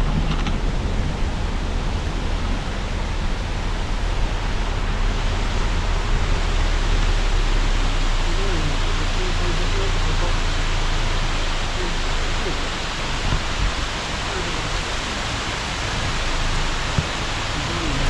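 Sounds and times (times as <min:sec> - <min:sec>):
car engine rumble: 0:00.0 - 0:18.0
tyres hissing on road: 0:00.8 - 0:18.0.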